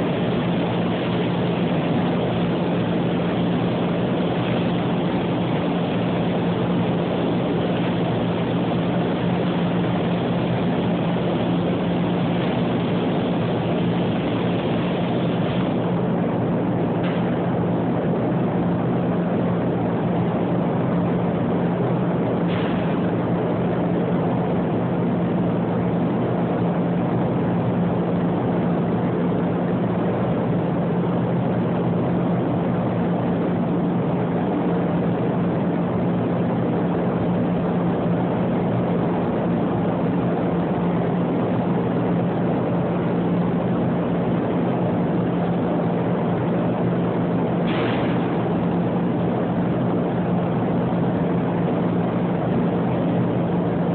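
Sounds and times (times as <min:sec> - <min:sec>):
ventilation fans humming: 0:00.0 - 0:53.9.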